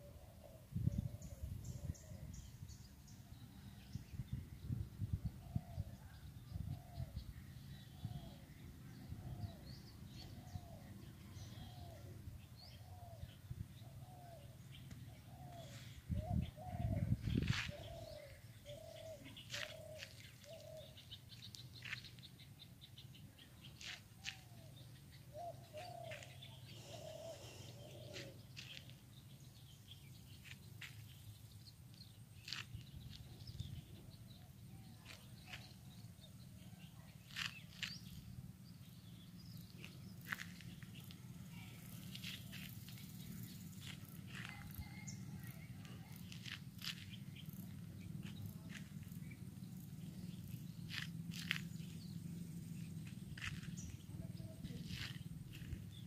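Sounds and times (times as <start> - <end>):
birds sharp high chirps: 6.2 - 56.0.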